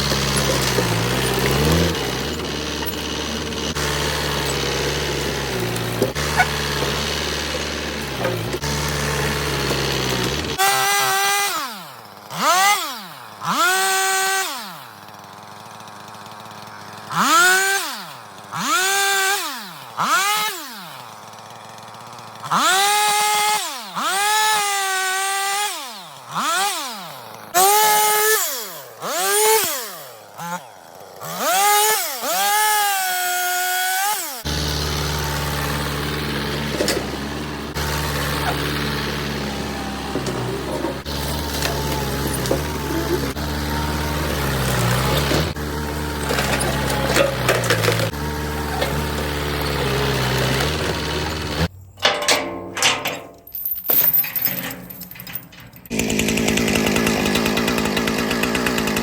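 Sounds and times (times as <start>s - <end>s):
chainsaw revving while cutting: 0.0s - 51.7s, 55.9s - 59.0s.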